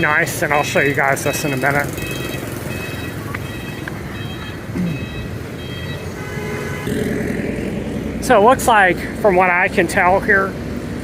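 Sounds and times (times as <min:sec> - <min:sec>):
street traffic hum: 0:00.0 - 0:11.0
vehicle passing: 0:00.0 - 0:11.0.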